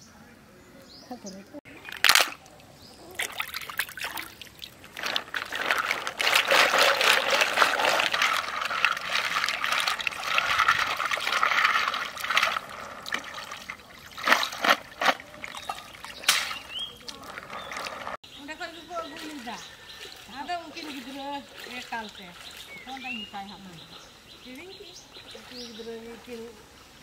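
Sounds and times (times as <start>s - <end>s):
water splashing and trickling: 1.6s - 27.0s.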